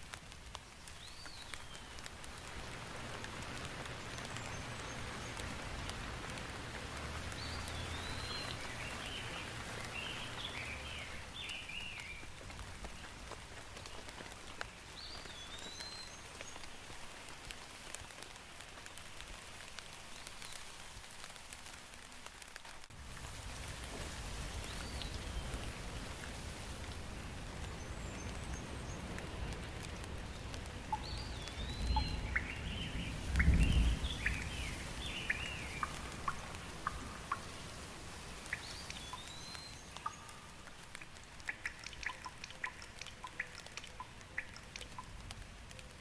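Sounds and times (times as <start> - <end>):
rain drops pattering: 0.0 - 46.0.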